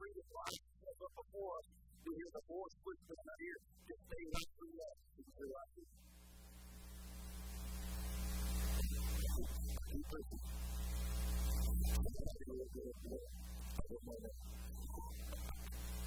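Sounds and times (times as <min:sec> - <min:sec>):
electrical mains hum: 0:00.1 - 0:16.0.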